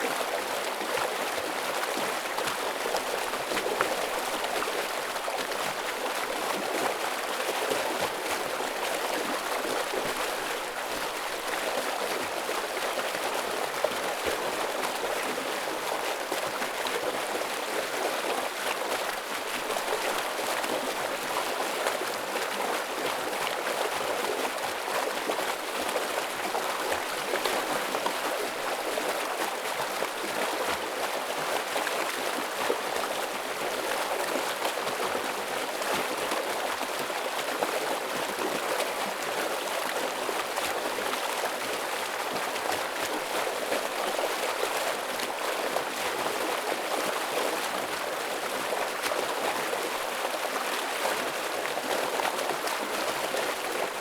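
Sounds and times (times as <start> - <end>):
stream water rushing and splashing: 0.0 - 54.0.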